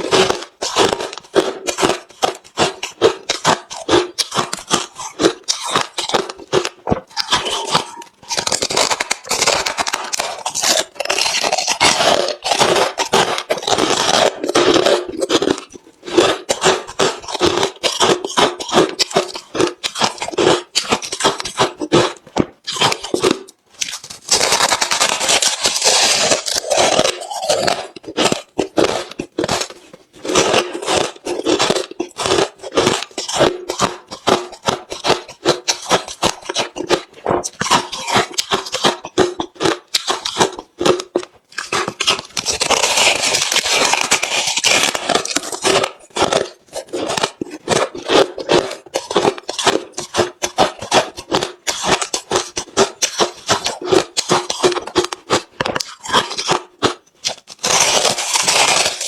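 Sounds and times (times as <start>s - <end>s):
mouth crunching ice: 0.0s - 59.0s.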